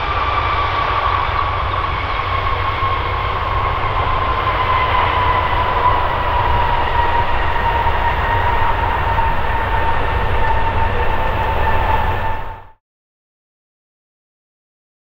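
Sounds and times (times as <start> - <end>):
jet engines spooling down: 0.0 - 12.8.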